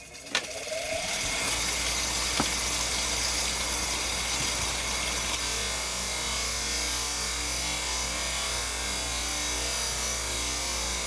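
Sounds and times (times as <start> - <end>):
sharpening machine motor humming: 0.2 - 11.0.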